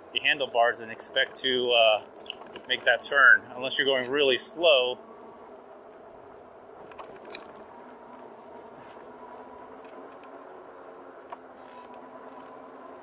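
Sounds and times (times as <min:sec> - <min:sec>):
electric bike humming and rolling: 0:00.0 - 0:13.0.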